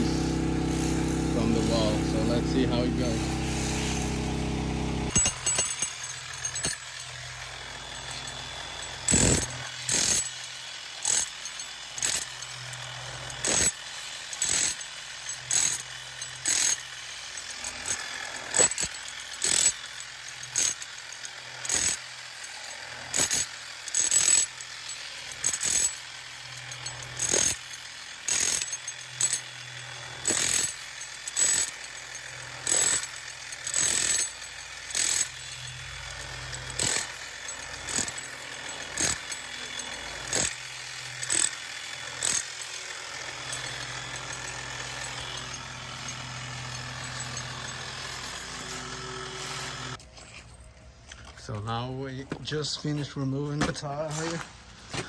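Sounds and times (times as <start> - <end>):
power chisel chipping tile: 0.8 - 50.0.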